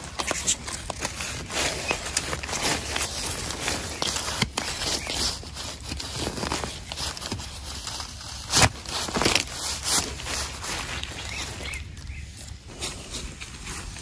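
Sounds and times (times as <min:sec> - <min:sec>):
leaves and twigs crunching: 0:00.0 - 0:14.0.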